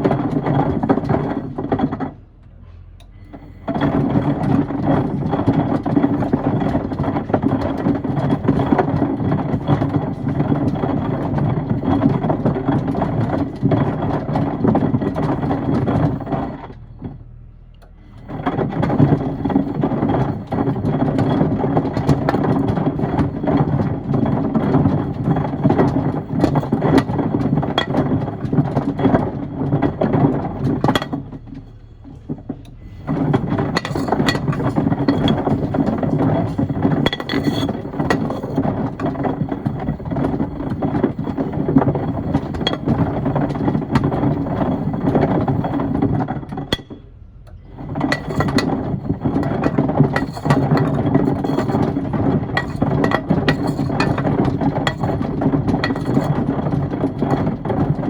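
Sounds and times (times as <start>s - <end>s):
wood and stones rattling: 0.0s - 2.2s, 3.2s - 17.0s, 18.0s - 58.0s
washing machine drum tumbling: 3.3s - 16.8s, 18.1s - 58.0s.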